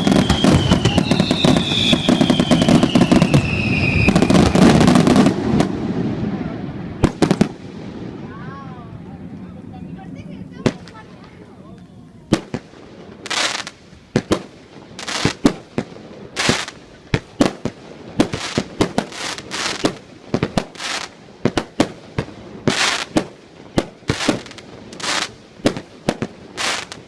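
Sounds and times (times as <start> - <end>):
fireworks bangs: 0.0 - 27.0
fireworks hissing and crackling: 0.0 - 27.0.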